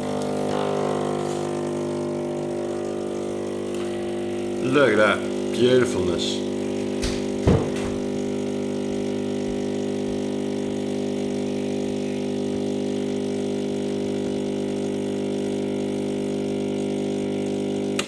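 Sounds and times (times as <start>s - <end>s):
espresso machine pump humming: 0.0s - 18.0s.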